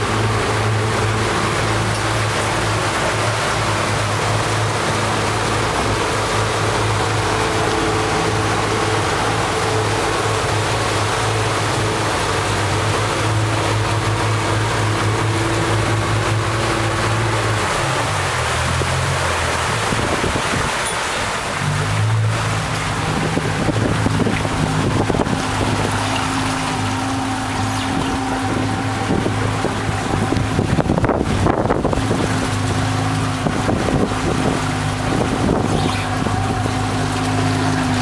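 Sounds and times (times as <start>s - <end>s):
speedboat engine humming: 0.0s - 38.0s
water and wind rushing: 0.0s - 38.0s.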